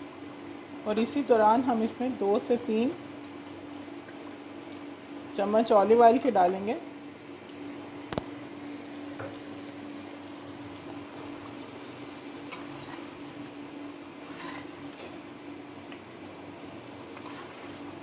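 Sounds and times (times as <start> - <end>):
curry bubbling and sizzling: 0.0 - 18.0.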